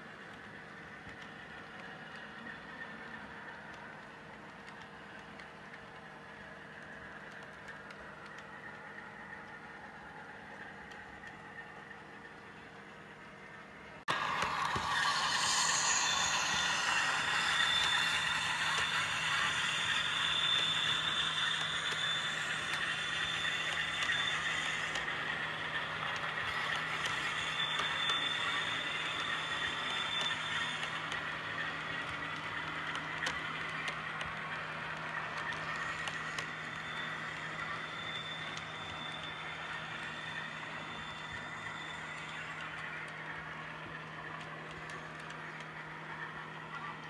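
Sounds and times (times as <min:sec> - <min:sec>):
model train wheels clicking on rails: 0:00.0 - 0:47.0
steady high whine: 0:00.0 - 0:47.0.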